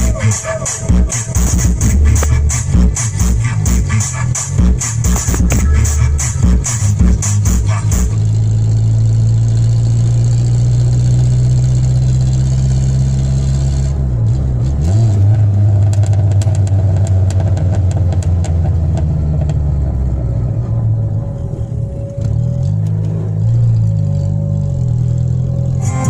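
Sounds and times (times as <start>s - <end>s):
car engine running while driving: 0.0s - 26.0s.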